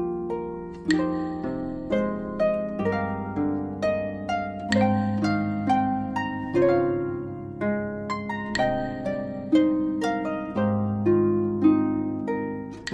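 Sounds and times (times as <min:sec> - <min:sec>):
harp plucked notes and chords: 0:00.0 - 0:12.9.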